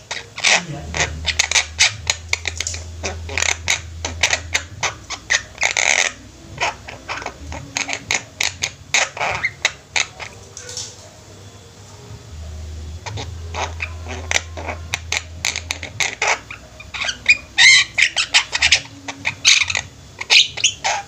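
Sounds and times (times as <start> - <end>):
mynas chattering and squawking: 0.0 - 11.4, 12.3 - 21.0
low hum: 0.0 - 20.9.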